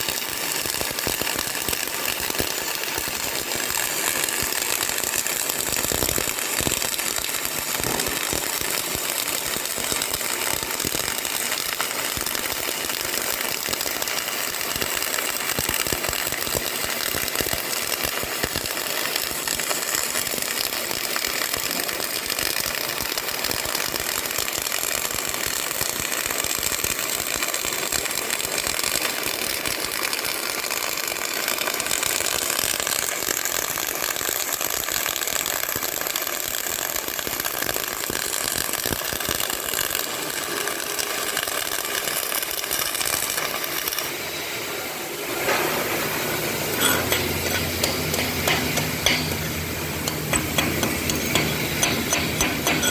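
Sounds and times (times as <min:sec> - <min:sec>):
welding arc crackling: 0:00.0 - 0:52.9.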